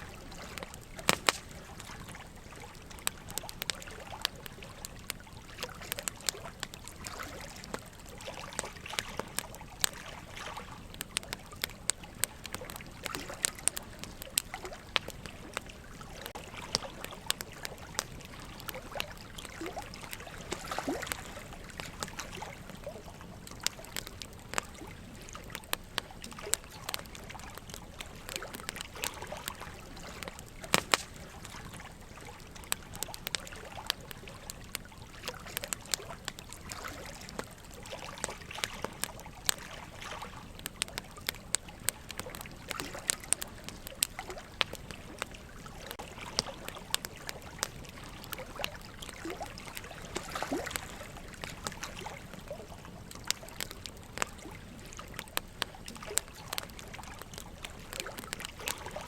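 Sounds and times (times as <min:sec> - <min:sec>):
running water trickling: 0:00.0 - 0:59.0
wood fire crackling: 0:00.0 - 0:59.0.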